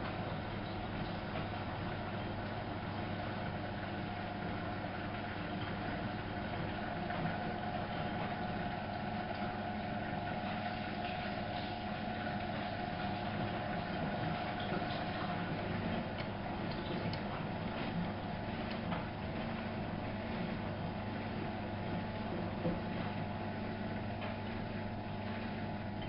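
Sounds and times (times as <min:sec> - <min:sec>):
washing machine running: 0:00.0 - 0:26.0.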